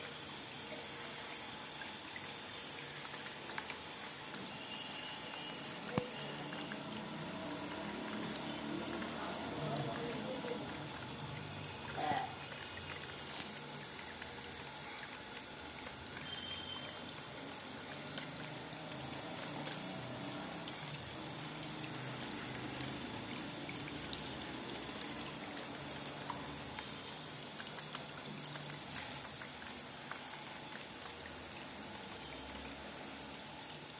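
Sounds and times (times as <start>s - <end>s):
fountain water trickling: 0.0s - 33.9s.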